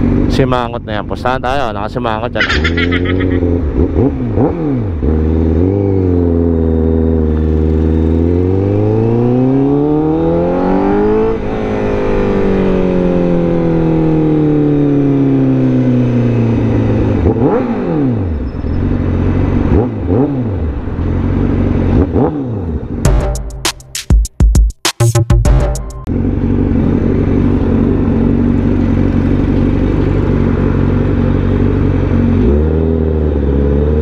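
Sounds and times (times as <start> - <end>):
motorcycle engine revving: 2.2 - 23.4, 26.0 - 34.0.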